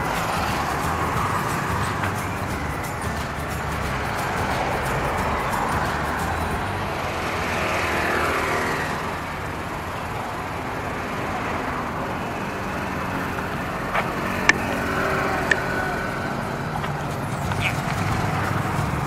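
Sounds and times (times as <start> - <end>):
vehicles passing on a road: 0.0 - 19.0.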